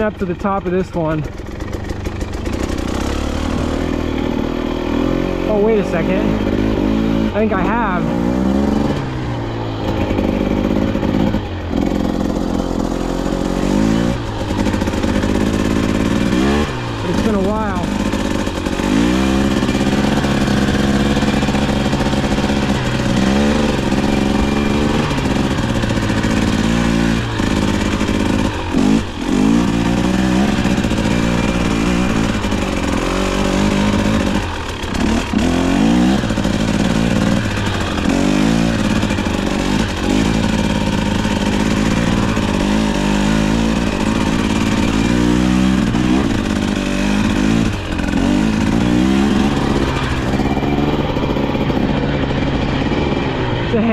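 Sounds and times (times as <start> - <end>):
two-stroke motorcycle engine revving: 0.0 - 53.9.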